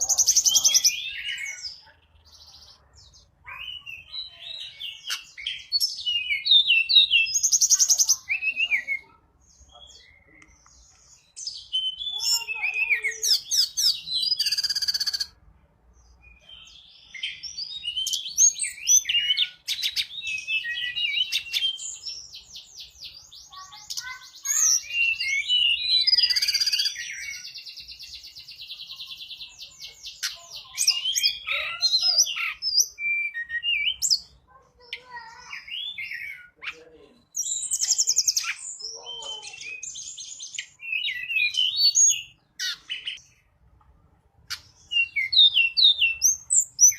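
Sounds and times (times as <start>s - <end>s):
bird singing chirps and trills: 0.0s - 43.6s, 44.4s - 46.9s.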